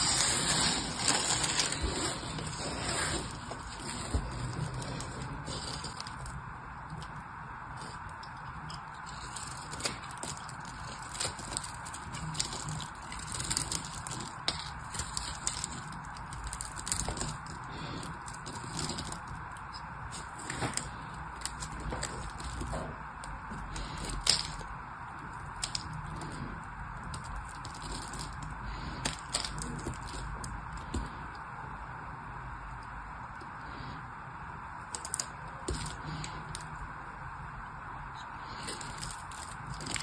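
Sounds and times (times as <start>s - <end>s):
knife carving soap: 0.0s - 31.3s, 38.4s - 40.0s.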